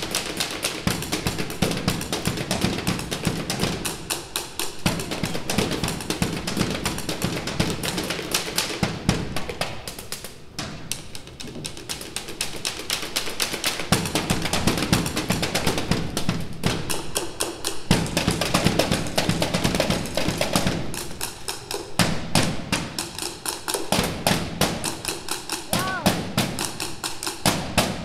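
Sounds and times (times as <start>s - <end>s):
drums and percussion strikes: 0.0s - 28.0s.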